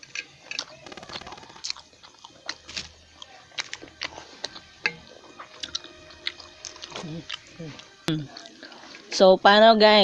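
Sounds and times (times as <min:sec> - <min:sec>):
chewing food: 0:00.0 - 0:09.2.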